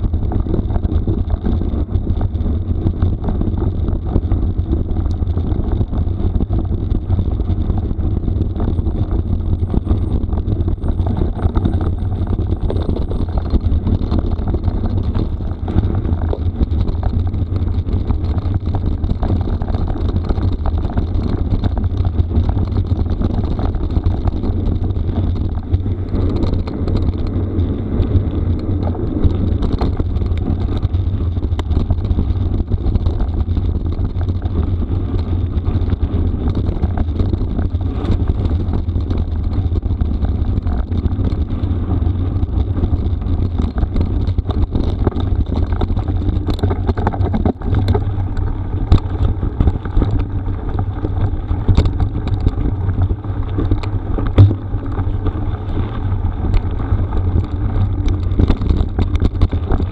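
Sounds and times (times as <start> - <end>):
bike knocking and rattling: 0.0 - 59.9
wind on the microphone: 0.0 - 59.9
tyres on gravel: 4.6 - 59.9.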